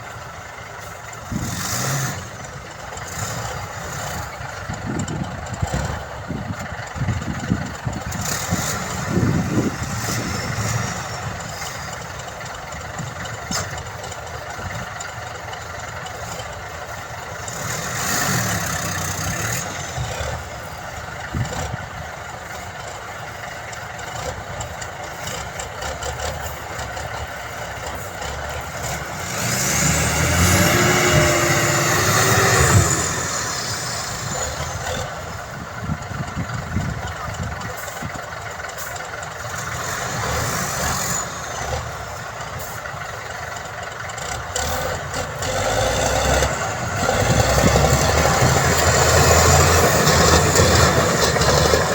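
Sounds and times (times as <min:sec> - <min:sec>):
heavy machinery diesel engine: 0:00.0 - 0:51.9.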